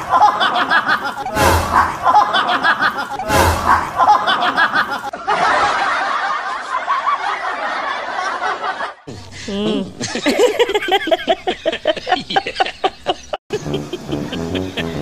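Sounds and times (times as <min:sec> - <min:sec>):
snickering laughter: 0:00.0 - 0:15.0.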